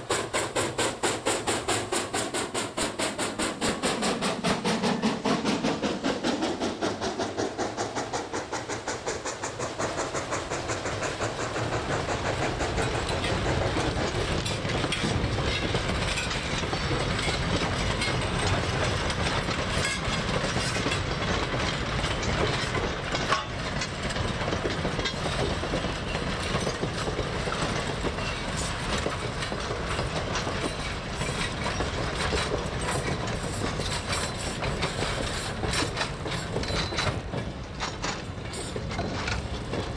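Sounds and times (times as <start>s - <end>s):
train rumbling past: 0.0s - 39.9s
train wheels clattering on rails: 0.0s - 39.9s.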